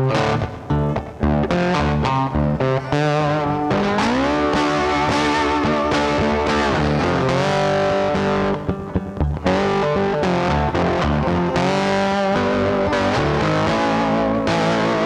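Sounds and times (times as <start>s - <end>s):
distorted electric guitar music: 0.0s - 15.0s.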